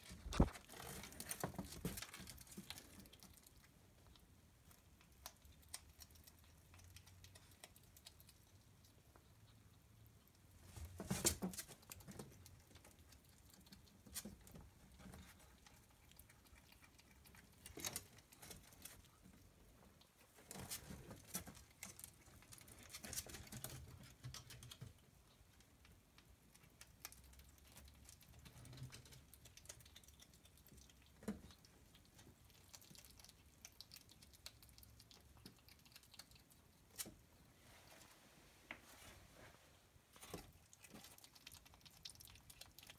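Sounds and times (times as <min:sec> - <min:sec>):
animals clicking and rustling: 0:00.0 - 0:37.3, 0:40.1 - 0:42.9.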